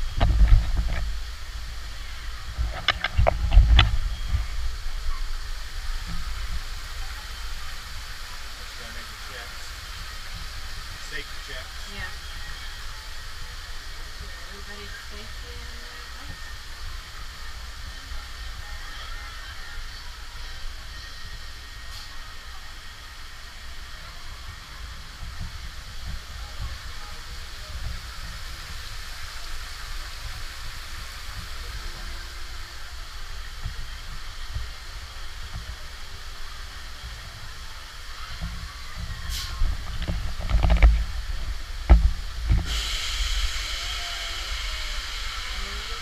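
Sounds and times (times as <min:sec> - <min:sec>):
ride vehicle rumble and hiss: 0:00.0 - 0:46.0.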